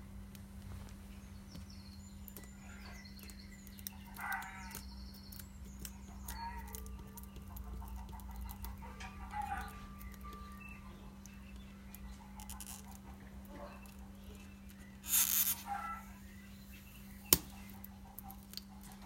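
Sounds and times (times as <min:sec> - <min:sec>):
chickens calling: 0:01.4 - 0:19.0.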